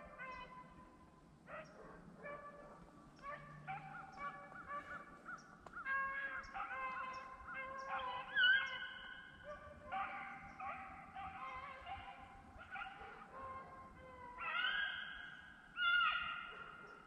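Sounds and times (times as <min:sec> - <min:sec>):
dogs baying and barking: 0:00.0 - 0:17.0.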